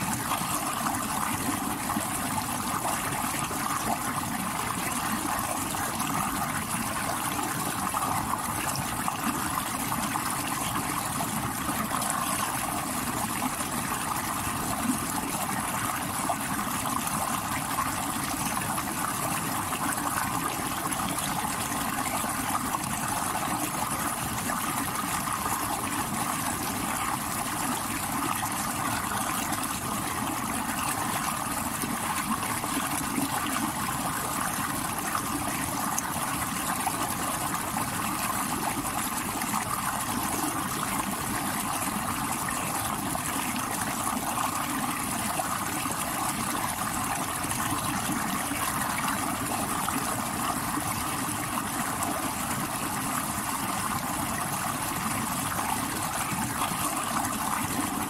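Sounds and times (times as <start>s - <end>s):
stream water rushing over rocks: 0.0s - 58.0s.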